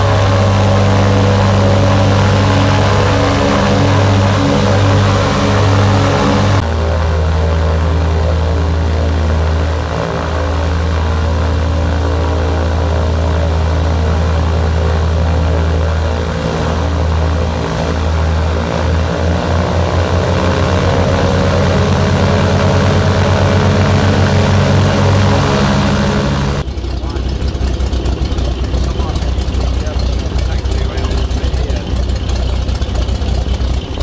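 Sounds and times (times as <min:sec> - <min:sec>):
piston aircraft engines droning: 0:00.0 - 0:34.0.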